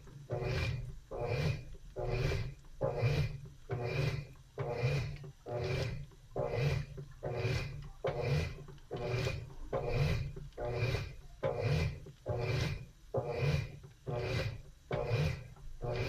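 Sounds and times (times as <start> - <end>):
washing machine agitator swishing: 0.0 - 16.0.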